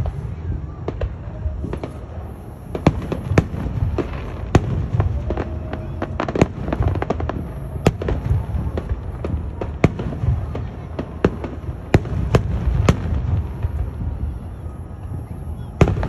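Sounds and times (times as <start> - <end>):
fireworks bursting with bangs: 0.0 - 16.0.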